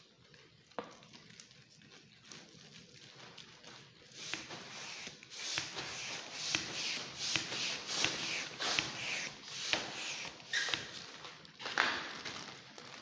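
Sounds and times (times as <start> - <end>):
foil balloon crinkling: 0.0 - 5.7, 8.0 - 13.0.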